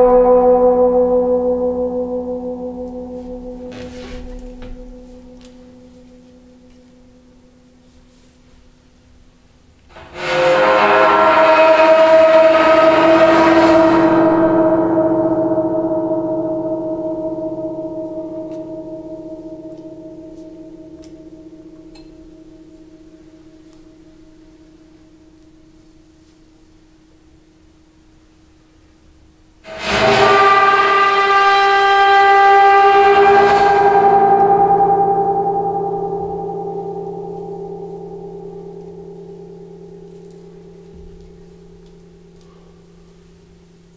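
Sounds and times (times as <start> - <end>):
dense metallic ringing tones: 0.0 - 7.7, 9.4 - 26.2, 28.9 - 43.9.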